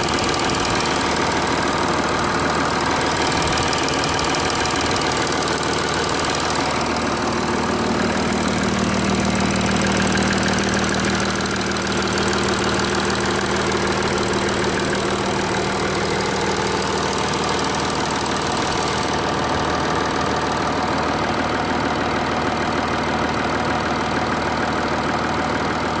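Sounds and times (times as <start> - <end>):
rattling clatter: 0.0 - 22.1
engine idling: 0.0 - 26.0.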